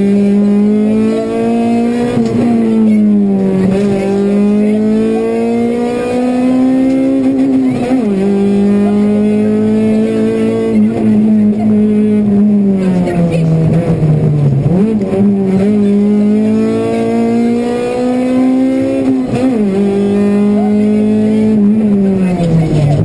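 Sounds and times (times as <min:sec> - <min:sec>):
car engine revving at high revs: 0:00.0 - 0:23.0.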